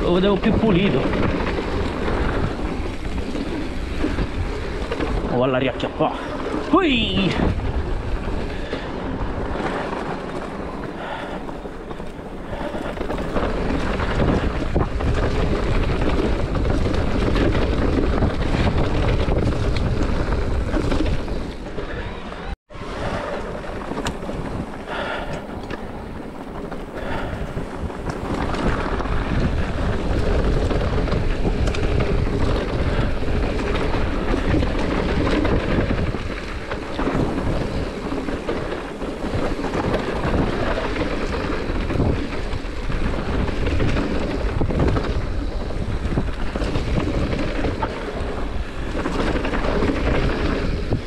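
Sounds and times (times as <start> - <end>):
mountain bike rolling and rattling: 0.0 - 51.0
wind buffeting microphone: 0.0 - 51.0.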